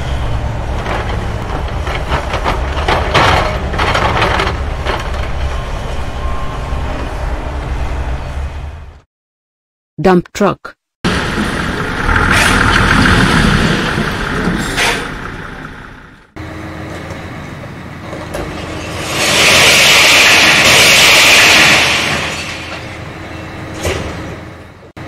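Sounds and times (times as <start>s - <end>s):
dump truck engine running: 0.0s - 9.0s, 11.1s - 25.0s.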